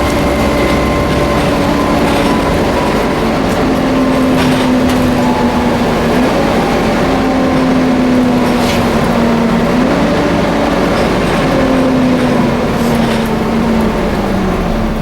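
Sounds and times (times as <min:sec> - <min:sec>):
bus engine drone with whine: 0:00.0 - 0:15.0.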